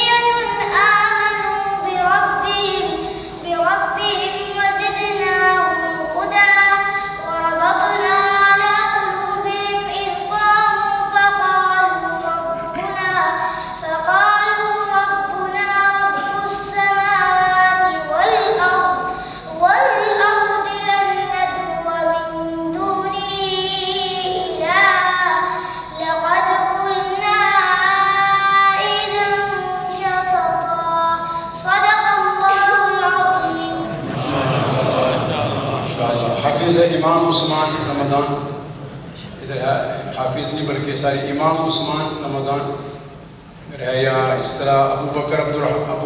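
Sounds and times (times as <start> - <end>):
boy reciting melodically: 0.0 - 46.0.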